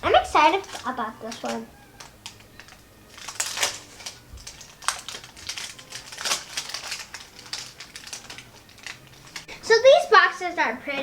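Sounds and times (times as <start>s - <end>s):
packaging crinkling and tearing: 0.0s - 9.6s.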